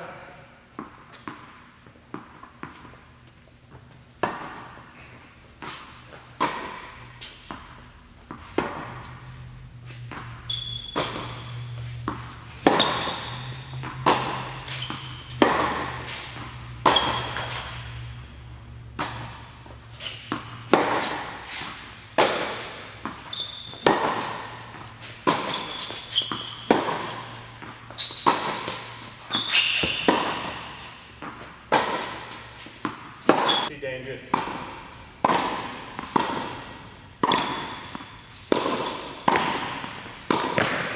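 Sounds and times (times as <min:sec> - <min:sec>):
tennis ball hit and bouncing: 0:03.7 - 0:04.8, 0:05.6 - 0:33.7, 0:34.3 - 0:40.9.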